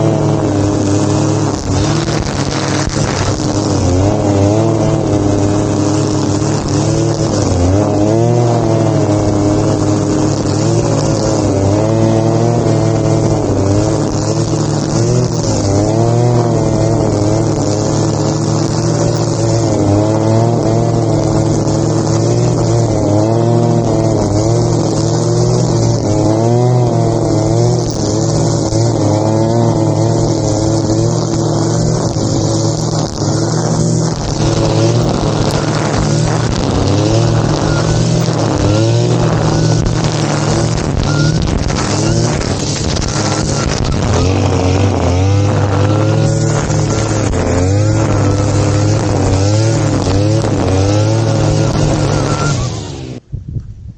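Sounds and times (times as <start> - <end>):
grass cutter engine running: 0.0 - 53.3.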